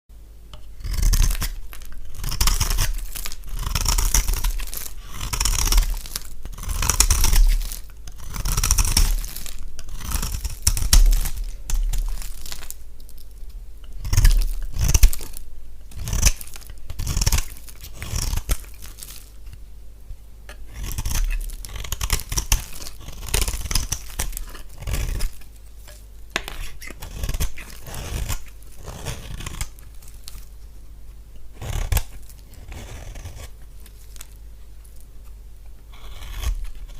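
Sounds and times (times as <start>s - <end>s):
bar soap being cut: 0.5s - 13.2s, 13.8s - 19.3s, 20.5s - 30.4s, 31.4s - 36.9s.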